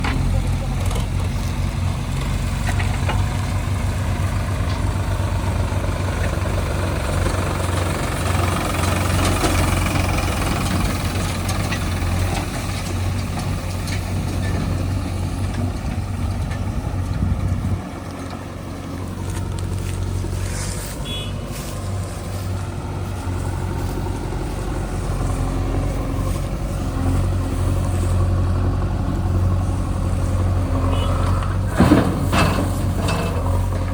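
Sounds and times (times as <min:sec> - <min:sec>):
backhoe diesel engine working: 0:00.0 - 0:33.9.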